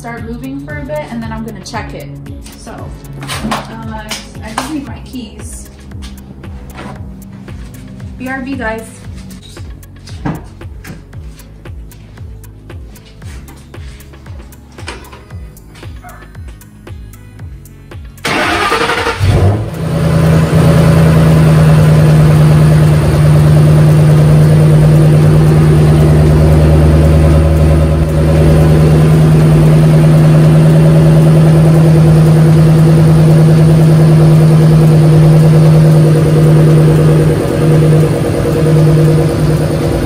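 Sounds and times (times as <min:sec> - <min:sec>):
car engine starting and idling: 0:00.0 - 0:11.4, 0:18.0 - 0:40.0.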